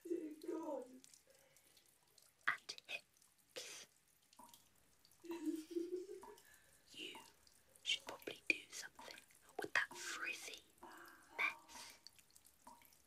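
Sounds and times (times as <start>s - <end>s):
water dripping into basin: 0.0s - 13.0s.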